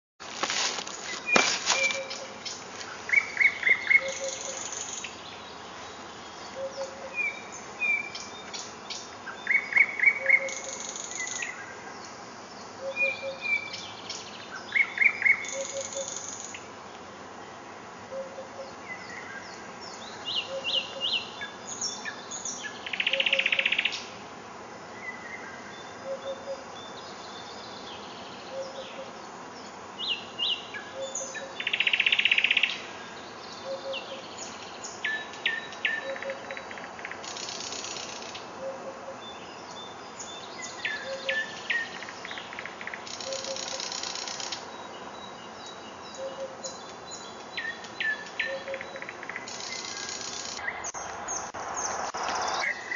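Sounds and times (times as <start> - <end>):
songbirds chirping and trilling: 0.2 - 52.9.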